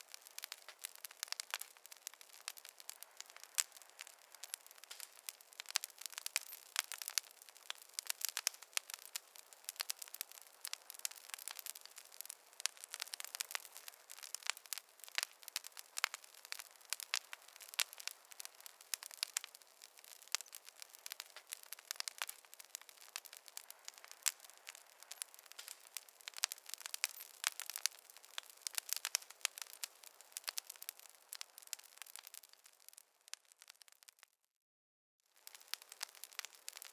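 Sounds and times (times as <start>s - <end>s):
faint fire hiss: 0.0s - 33.9s, 35.3s - 36.9s
campfire crackling and popping: 0.0s - 34.4s, 35.3s - 36.9s.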